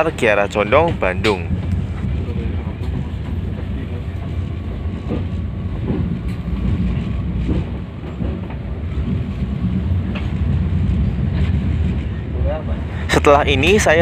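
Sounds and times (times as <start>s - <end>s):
train running gear rumble: 0.0s - 14.0s
train wheel clicks: 0.7s - 12.2s.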